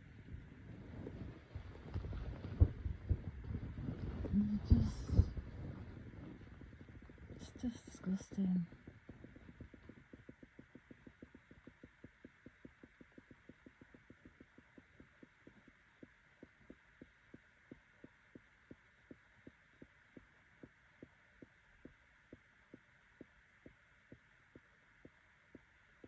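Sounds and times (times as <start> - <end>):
regular low thumping: 1.7 - 26.0.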